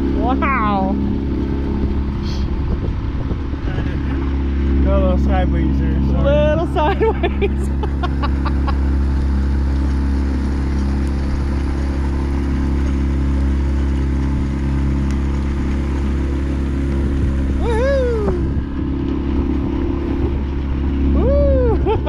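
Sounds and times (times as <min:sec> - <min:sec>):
boat engine droning: 0:00.0 - 0:22.0
rush of the wake: 0:00.0 - 0:22.0.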